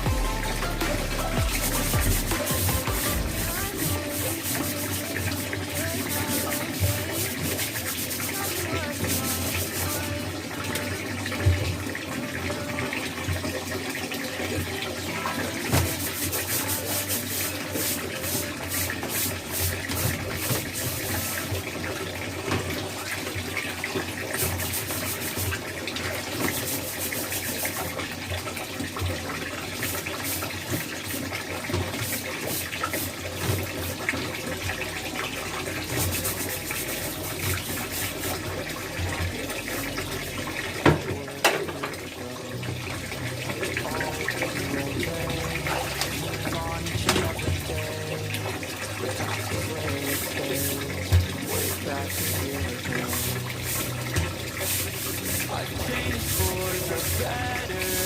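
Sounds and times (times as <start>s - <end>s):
scrubbing strokes: 0.0s - 40.8s, 42.9s - 58.0s
tap water running into sink: 0.0s - 58.0s.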